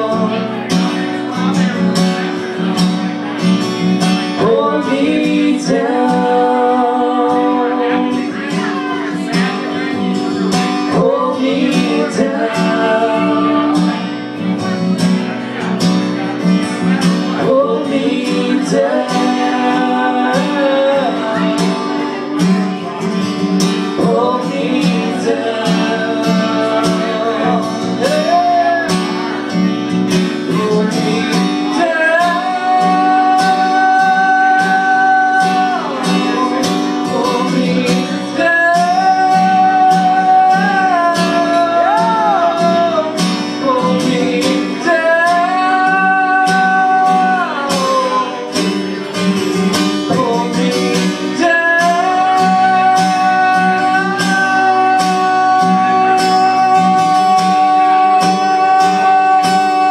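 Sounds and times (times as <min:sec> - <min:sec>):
men singing: 0:00.0 - 0:02.7, 0:04.0 - 0:59.9
acoustic guitar strumming: 0:00.0 - 0:59.9.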